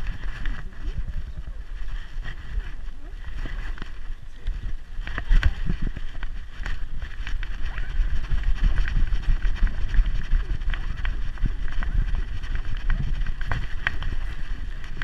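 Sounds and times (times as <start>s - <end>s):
camera handling rumble: 0.0s - 15.0s.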